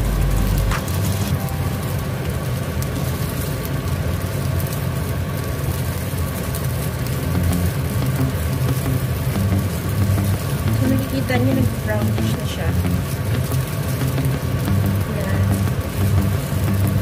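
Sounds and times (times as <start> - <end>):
steady low hum: 0.0 - 17.0
bread sizzling in butter: 2.4 - 17.0.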